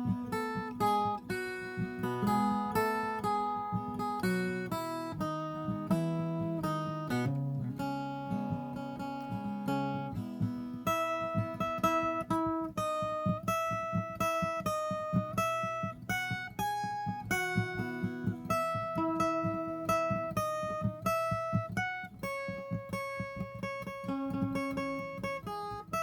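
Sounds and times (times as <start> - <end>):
folk guitar melody: 0.0 - 26.0.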